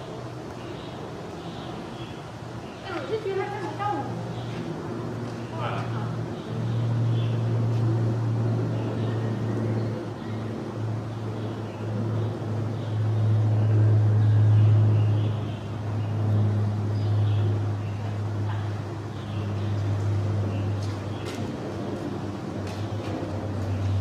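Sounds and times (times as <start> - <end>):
low mechanical motor hum: 0.0 - 24.0.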